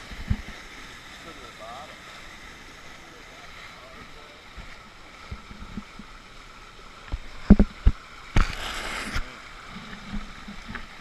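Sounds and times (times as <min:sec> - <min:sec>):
river water: 0:00.0 - 0:11.0
water splashing: 0:00.0 - 0:11.0.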